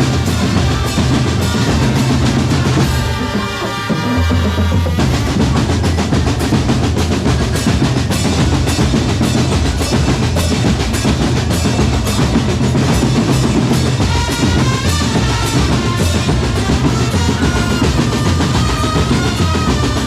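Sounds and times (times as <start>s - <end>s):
snare drum strokes and rolls: 0.0s - 20.0s.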